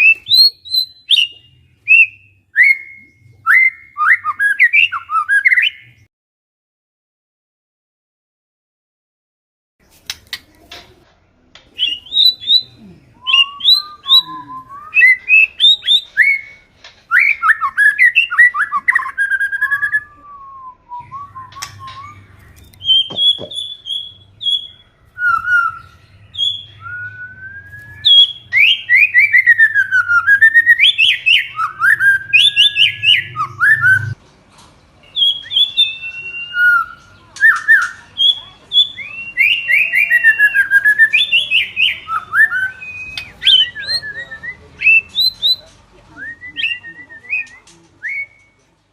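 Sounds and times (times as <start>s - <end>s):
bird singing whistled phrases: 0.0s - 6.0s, 11.8s - 34.2s, 35.1s - 48.6s.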